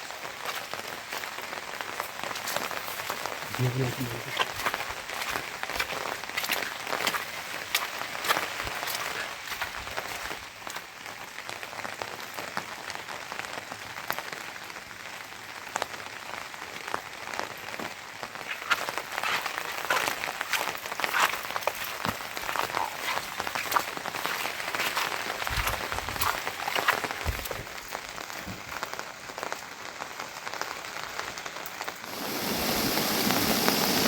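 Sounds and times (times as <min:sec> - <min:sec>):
rain with sharp drips: 0:00.0 - 0:34.0.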